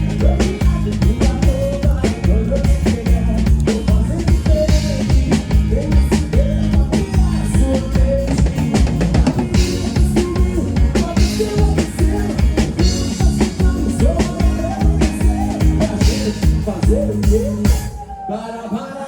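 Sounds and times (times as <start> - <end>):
drum kit beat: 0.0 - 18.2
live band playing amplified music: 0.0 - 19.0.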